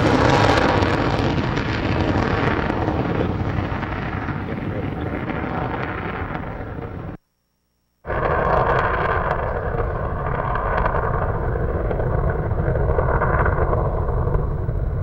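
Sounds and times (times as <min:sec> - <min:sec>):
rocket engines rumbling: 0:00.0 - 0:07.2, 0:08.1 - 0:15.0.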